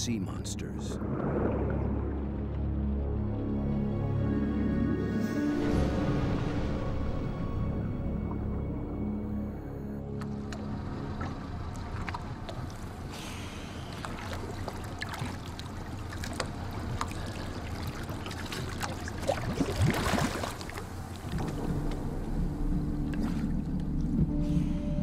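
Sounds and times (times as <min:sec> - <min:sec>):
underwater bubbling: 0:00.8 - 0:03.7, 0:07.7 - 0:25.0
water sloshing and splashing: 0:01.0 - 0:09.4, 0:10.0 - 0:24.8.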